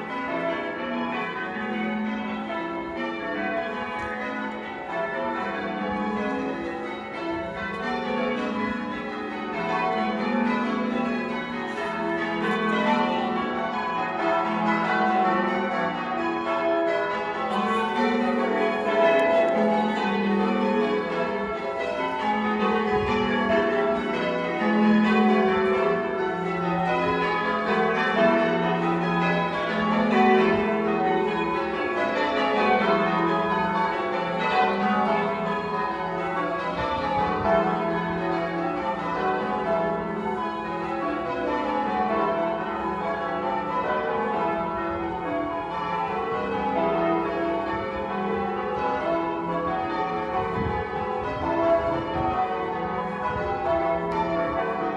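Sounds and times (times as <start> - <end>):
church bells ringing changes: 0.0 - 54.9.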